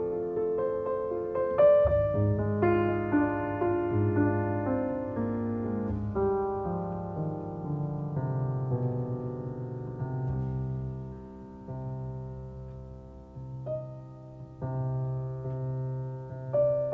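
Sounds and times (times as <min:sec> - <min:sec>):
slow keyboard music: 0:00.0 - 0:16.9.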